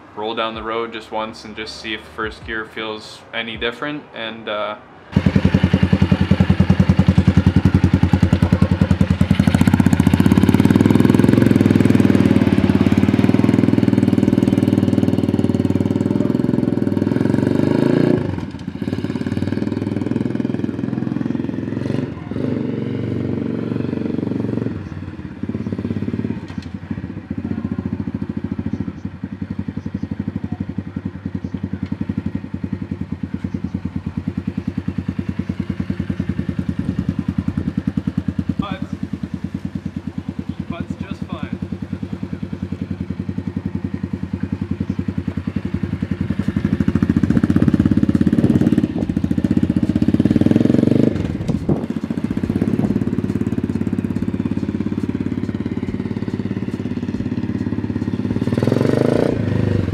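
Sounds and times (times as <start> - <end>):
motorbike engine revving: 5.1 - 59.9.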